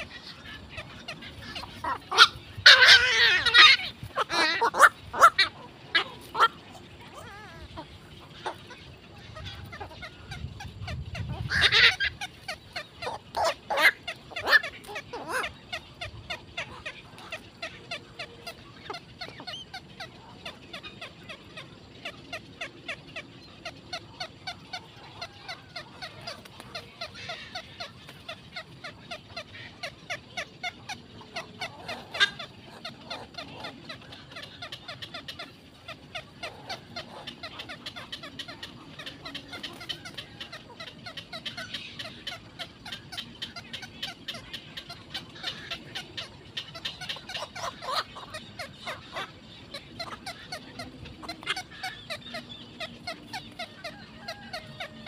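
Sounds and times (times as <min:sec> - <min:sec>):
heron chicks chattering calls: 0:00.0 - 0:55.0.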